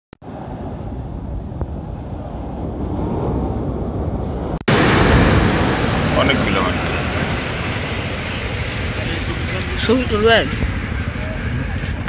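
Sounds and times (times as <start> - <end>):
wind on microphone: 0.2 - 12.0
surf washing up beach: 2.1 - 12.0.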